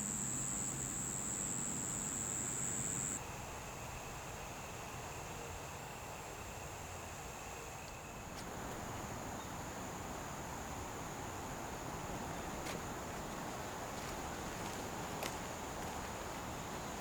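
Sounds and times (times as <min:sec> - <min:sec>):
insects trilling: 0:00.0 - 0:17.0
soft outdoor hiss: 0:00.0 - 0:17.0.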